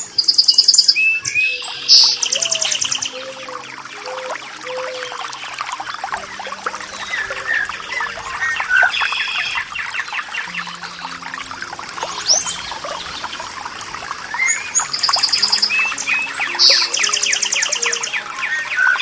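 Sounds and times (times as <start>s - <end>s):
small birds chirping: 0.0s - 19.0s
soft sustained music notes: 0.0s - 19.0s
water trickling and splashing: 0.0s - 19.0s.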